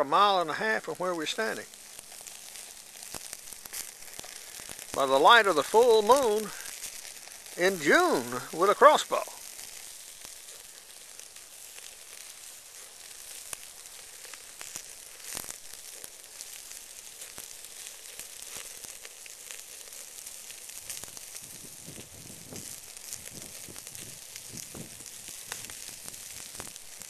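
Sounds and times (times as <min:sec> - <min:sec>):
crackles and pops of coals: 0:00.0 - 0:27.0
meat sizzling on a charcoal grill: 0:00.0 - 0:27.0.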